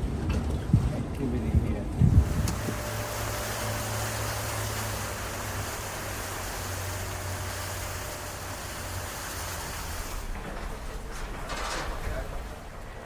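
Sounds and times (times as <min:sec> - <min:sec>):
boat engine hum: 0:00.0 - 0:13.0
wind and water rushing: 0:00.0 - 0:13.0.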